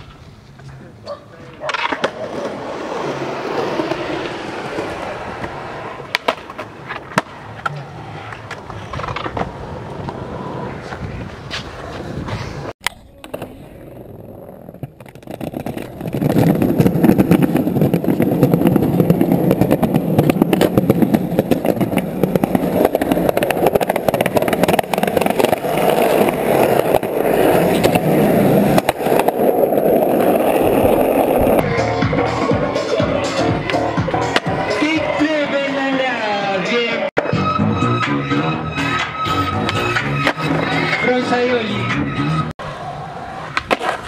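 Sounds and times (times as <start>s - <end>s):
skateboard wheels rolling on pavement: 0.0s - 44.0s.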